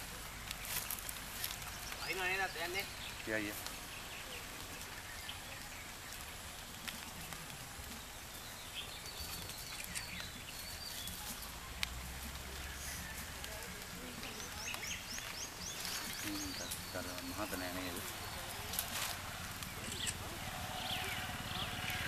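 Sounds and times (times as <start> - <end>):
small birds chirping: 0.0 - 22.0
steady background hiss: 0.0 - 22.0.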